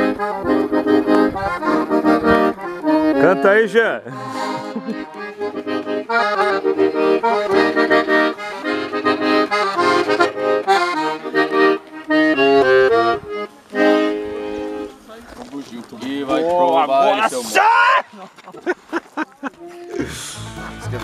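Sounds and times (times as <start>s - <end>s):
accordion playing lively tune: 0.0s - 15.5s, 19.6s - 21.0s.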